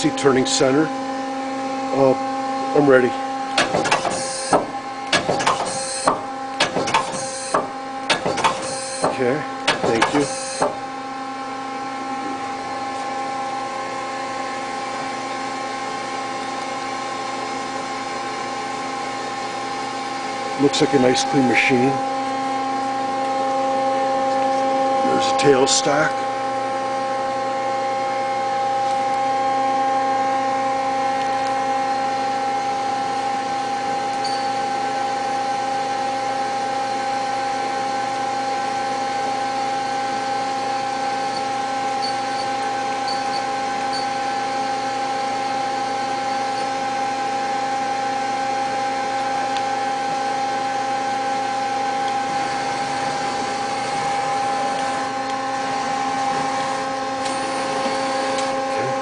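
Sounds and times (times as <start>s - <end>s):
machine whine: 0.0s - 59.0s.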